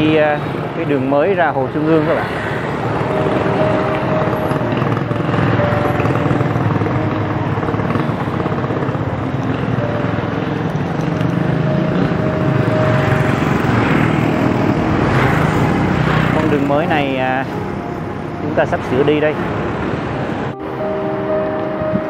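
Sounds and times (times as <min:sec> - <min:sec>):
vehicle engines running: 0:00.0 - 0:22.0.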